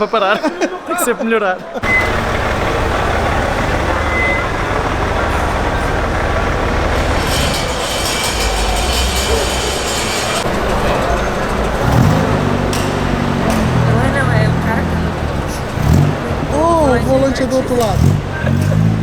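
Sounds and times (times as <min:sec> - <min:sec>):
hissing rush: 0:01.8 - 0:18.5
vehicle engine rumble: 0:01.8 - 0:19.0.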